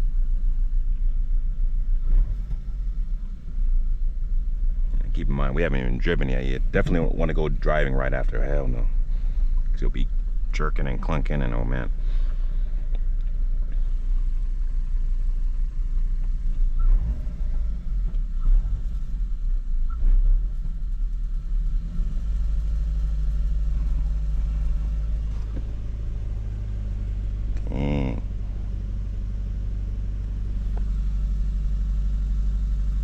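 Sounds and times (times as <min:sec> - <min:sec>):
car engine rumbling and revving: 0:00.0 - 0:33.0.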